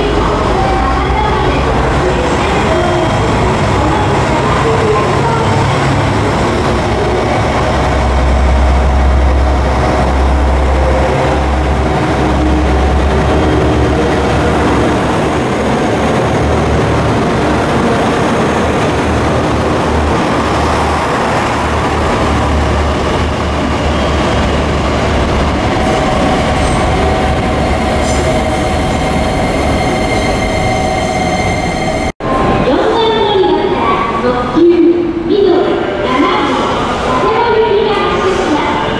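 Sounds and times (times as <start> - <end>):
diesel railcar engine rumble: 0.0 - 32.6.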